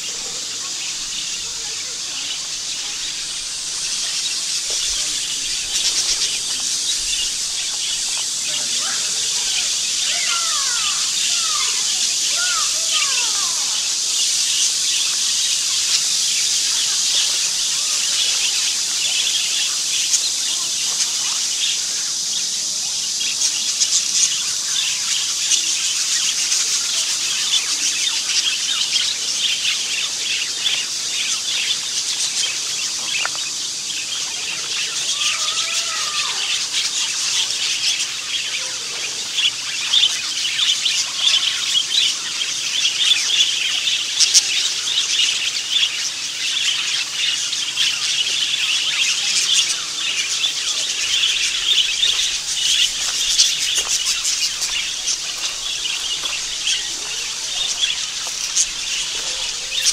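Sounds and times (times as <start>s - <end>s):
small birds chirping: 0.0s - 59.9s
steady high-pitched hiss: 0.0s - 59.9s.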